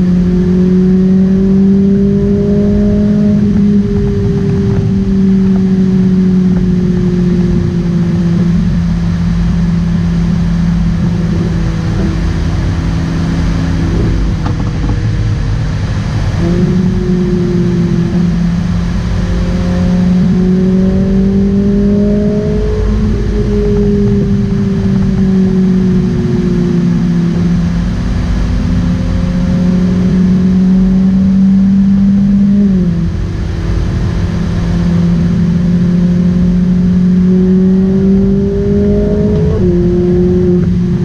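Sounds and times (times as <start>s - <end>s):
tyre and road rumble: 0.0s - 35.4s
car engine droning: 0.0s - 41.0s.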